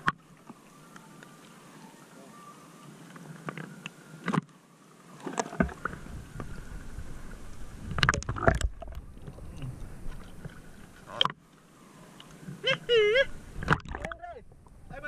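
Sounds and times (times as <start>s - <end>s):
low rumble of water: 0.0s - 15.0s
water sloshing against camera: 0.0s - 15.0s
water splashes: 0.0s - 15.0s.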